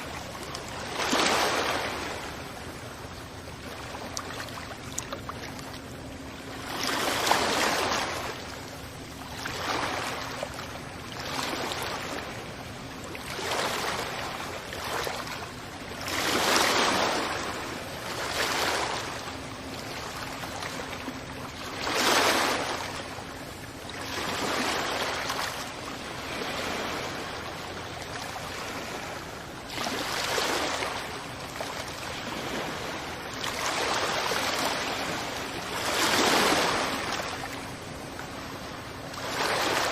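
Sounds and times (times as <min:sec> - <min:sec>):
waves washing onto beach: 0:00.0 - 0:39.9.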